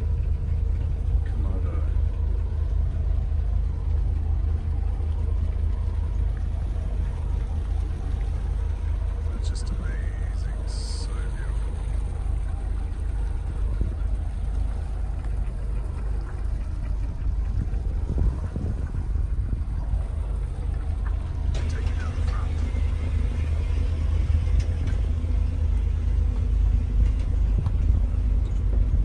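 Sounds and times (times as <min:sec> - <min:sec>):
boat engine droning: 0:00.0 - 0:29.0
faint steady hum: 0:00.0 - 0:29.0.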